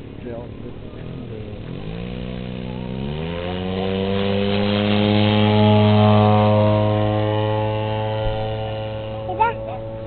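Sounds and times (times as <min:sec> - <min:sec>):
model airplane engine revving: 0:01.0 - 0:10.0.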